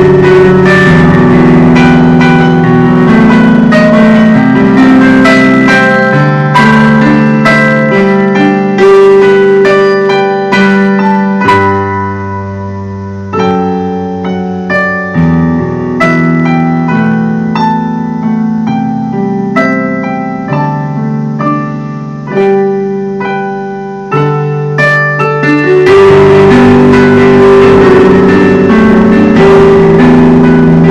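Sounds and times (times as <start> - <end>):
slow piano piece: 0.0 - 30.9.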